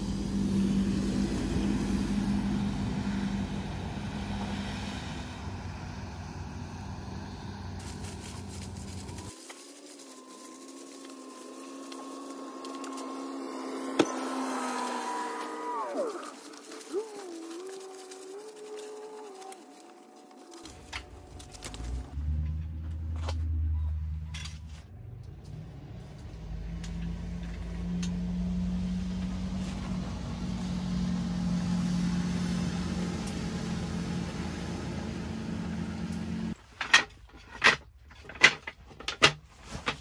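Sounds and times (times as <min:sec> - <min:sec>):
car engine humming: 0:00.0 - 0:36.6.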